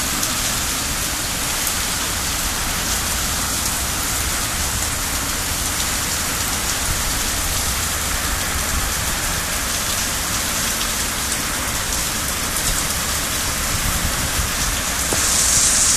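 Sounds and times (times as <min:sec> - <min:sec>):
heavy rain on lawn: 0:00.0 - 0:15.9.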